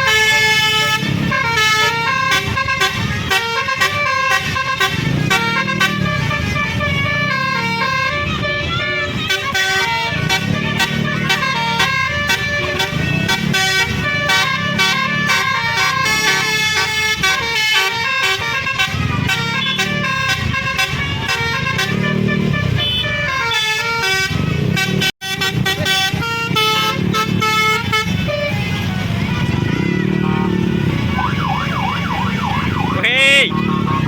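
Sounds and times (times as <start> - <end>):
musical air horn melody: 0.0 - 34.0.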